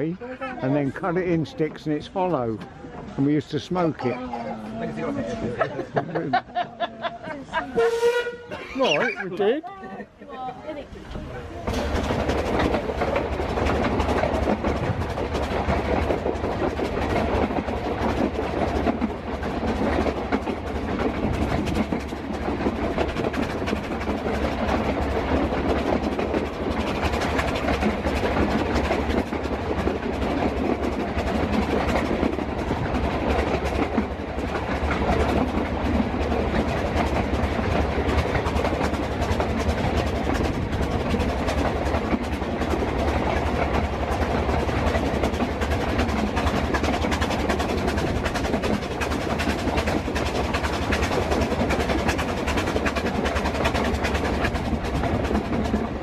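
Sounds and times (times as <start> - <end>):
wheel-on-rail rumble: 0.0 - 56.0
carriages rattling and clattering: 11.1 - 56.0.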